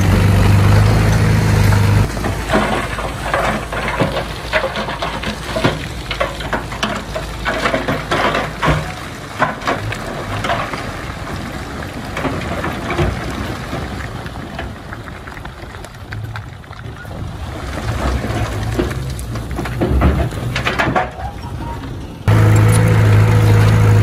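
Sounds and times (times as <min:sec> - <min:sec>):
bulldozer diesel engine droning: 0:00.0 - 0:24.0
steel tracks crackling and clattering: 0:00.0 - 0:24.0.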